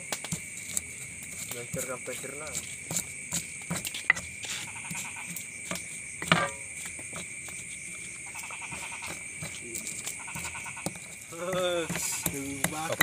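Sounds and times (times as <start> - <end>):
frogs calling: 0.0 - 13.0
insects buzzing: 0.0 - 13.0.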